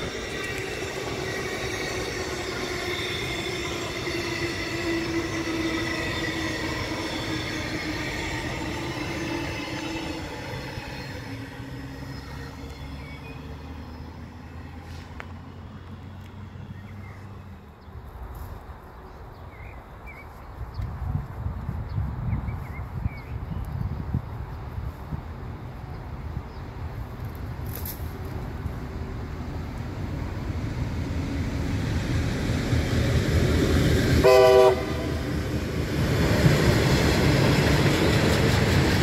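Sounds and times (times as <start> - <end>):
electric train whine: 0.0 - 20.0, 23.7 - 39.0
wheels on rail: 0.0 - 39.0.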